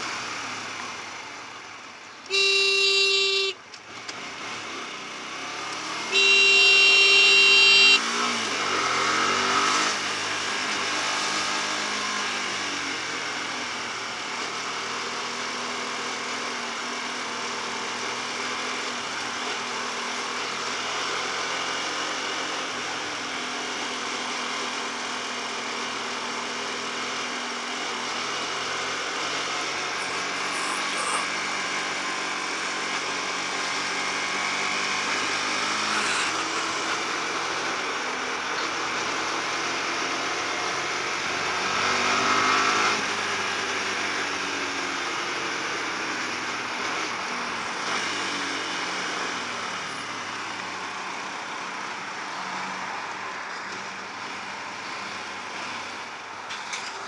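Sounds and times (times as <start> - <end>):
motorcycle engine at low revs: 0.0 - 52.0
wind and road noise: 0.0 - 57.0.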